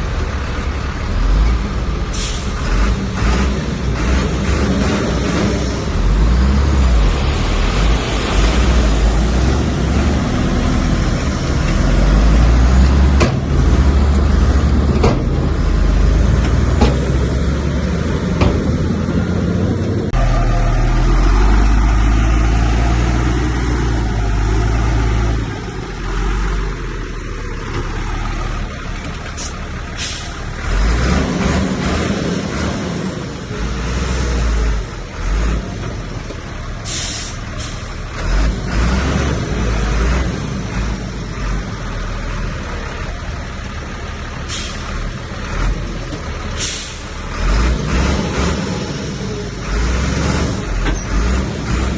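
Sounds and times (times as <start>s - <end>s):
bulldozer diesel engine rumbling: 0.0s - 51.9s.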